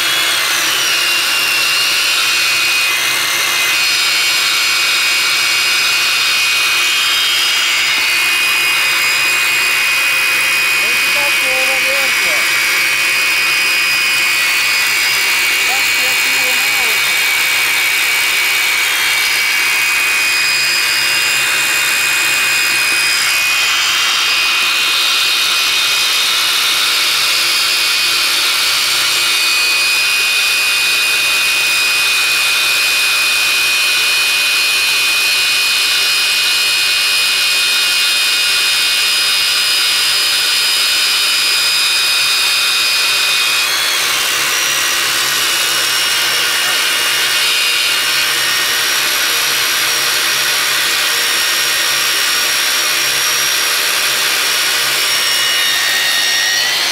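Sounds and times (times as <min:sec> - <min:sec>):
electric drill whining into concrete: 0:00.0 - 0:56.9.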